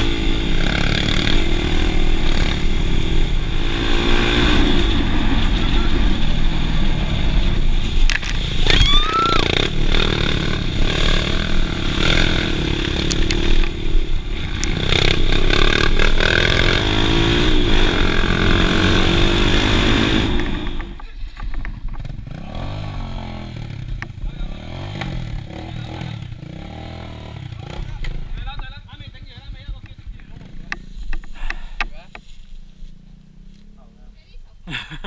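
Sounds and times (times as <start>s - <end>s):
dirt bike engine: 0.0s - 35.0s.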